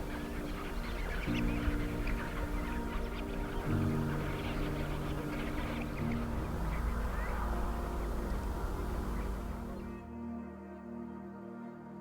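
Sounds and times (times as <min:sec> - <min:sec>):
faint bird calls: 0:00.0 - 0:10.0
low wind rumble: 0:00.0 - 0:10.2
soft ambient music: 0:00.0 - 0:12.0.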